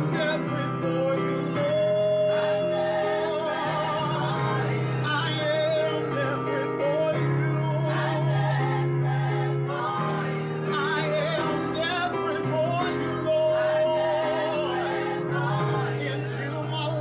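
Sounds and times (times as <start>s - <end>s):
gospel group singing: 0.0s - 17.0s
sustained accompanying chords: 0.0s - 17.0s.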